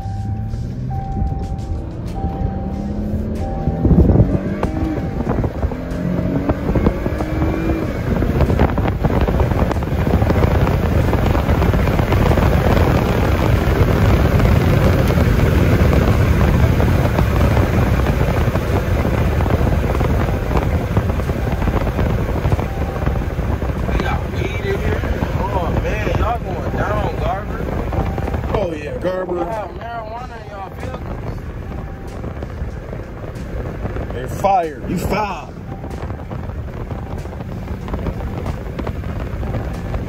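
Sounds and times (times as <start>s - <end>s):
car driving heard from inside: 0.0s - 40.0s.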